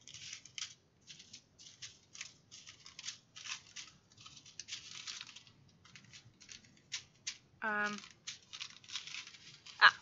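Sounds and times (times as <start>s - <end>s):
plastic bags rustling: 0.0s - 10.0s.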